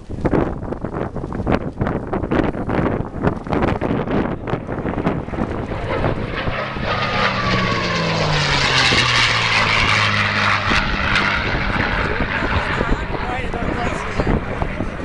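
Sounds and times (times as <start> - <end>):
propeller plane passing overhead: 2.9 - 15.0.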